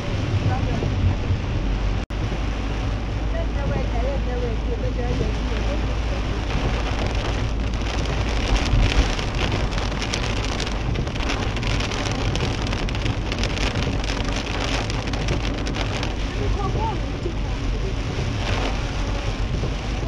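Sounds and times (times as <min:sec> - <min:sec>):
car rumbling on wet road: 0:00.0 - 0:20.0
heavy rain on car windscreen: 0:00.0 - 0:20.0.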